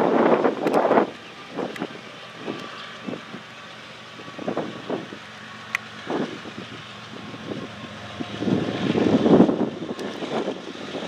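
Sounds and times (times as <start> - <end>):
diesel locomotive hum: 0.0 - 11.0
wind buffeting microphone: 0.0 - 11.0.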